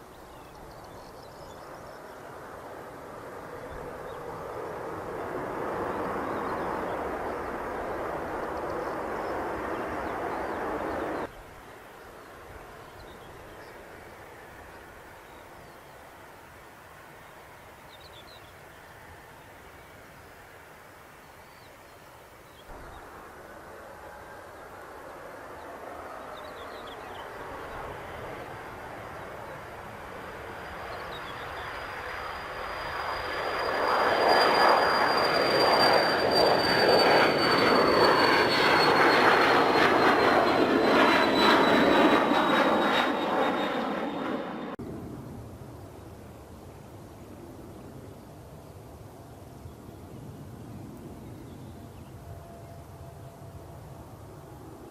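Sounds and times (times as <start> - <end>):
jet airliner passing: 0.0 - 17.8, 22.7 - 54.9.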